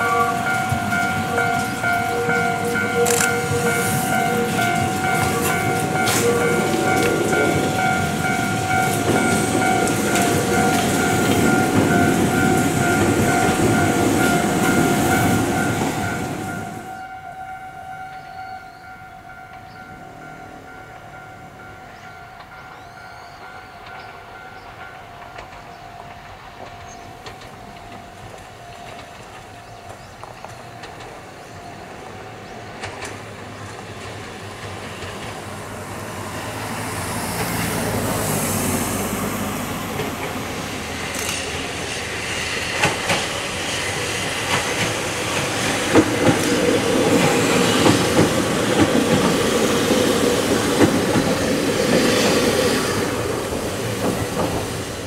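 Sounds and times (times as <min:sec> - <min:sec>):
wheels clicking over rail joints: 0:00.0 - 0:19.8, 0:23.8 - 0:38.1, 0:38.9 - 0:55.0
electric train running past: 0:00.0 - 0:55.0.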